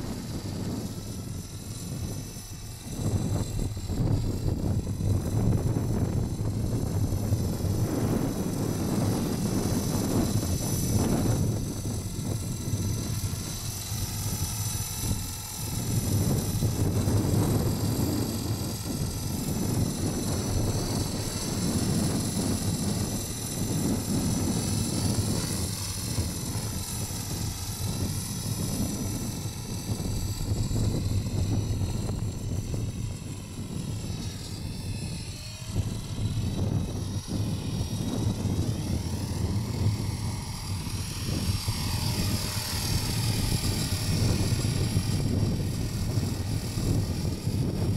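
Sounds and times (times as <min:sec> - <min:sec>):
rc helicopter motor whine: 0:00.0 - 0:47.9
wind rumbling on microphone: 0:00.0 - 0:47.9.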